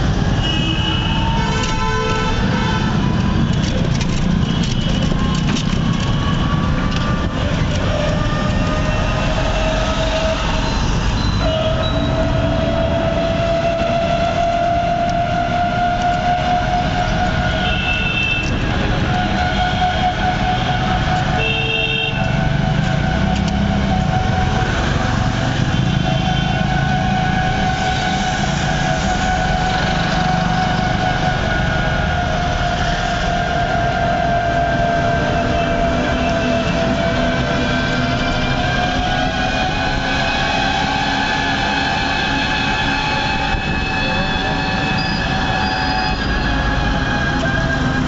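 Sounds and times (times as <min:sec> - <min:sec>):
road and motor noise: 0:00.0 - 0:48.0.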